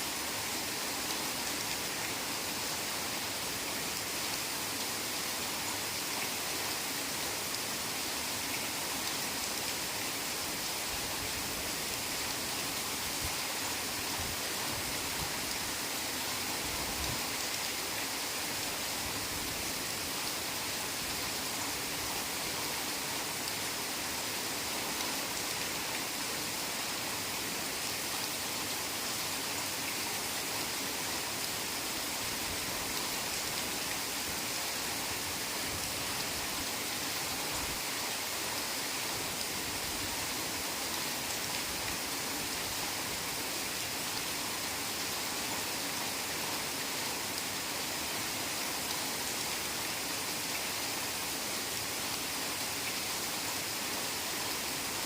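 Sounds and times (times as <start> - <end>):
heavy rain on leaves: 0.0 - 55.0.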